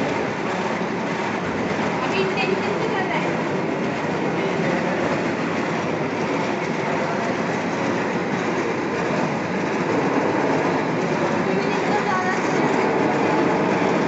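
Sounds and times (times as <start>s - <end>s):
lathe running: 0.0s - 14.0s.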